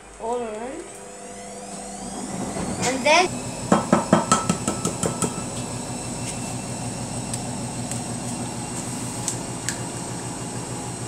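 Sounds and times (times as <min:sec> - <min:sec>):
pulsing mechanical hum: 0:00.0 - 0:11.0.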